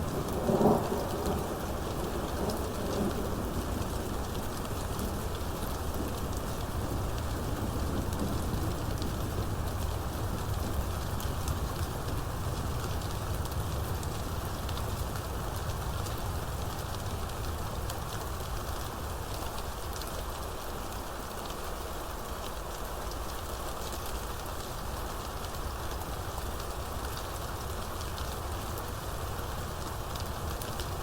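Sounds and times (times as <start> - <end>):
rain pattering on surfaces: 0.0 - 31.0.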